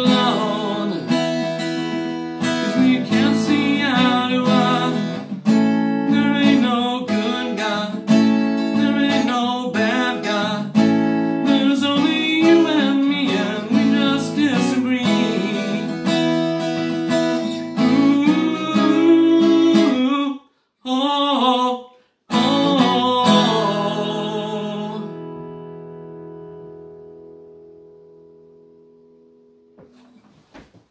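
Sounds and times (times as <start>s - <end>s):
acoustic guitar strumming: 0.0s - 20.3s, 22.3s - 30.2s.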